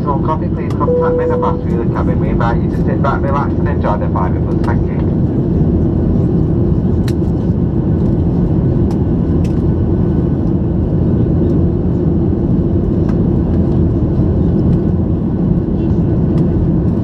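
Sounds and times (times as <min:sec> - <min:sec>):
jet engine cabin drone: 0:00.0 - 0:17.0.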